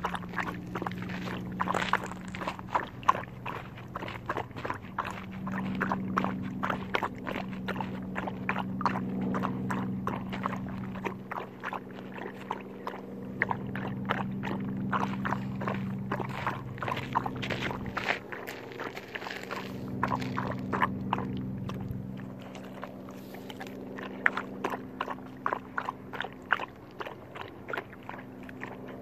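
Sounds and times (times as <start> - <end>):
puppy lapping water: 0.0 - 29.0
steady low hum: 0.0 - 29.0.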